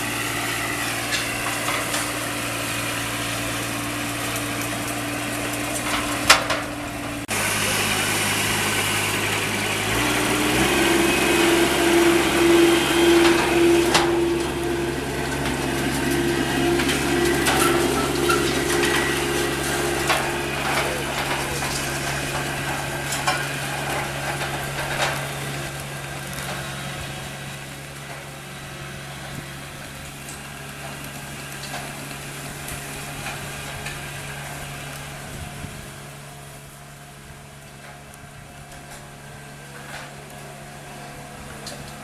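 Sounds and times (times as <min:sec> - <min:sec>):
noisy rattle: 0:00.0 - 0:36.7
engine humming: 0:00.0 - 0:42.0.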